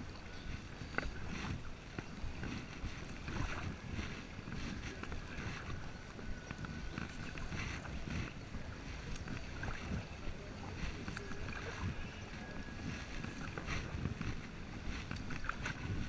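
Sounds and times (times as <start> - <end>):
paddle splashing in water: 0.0 - 16.0
wind noise on microphone: 0.0 - 16.0.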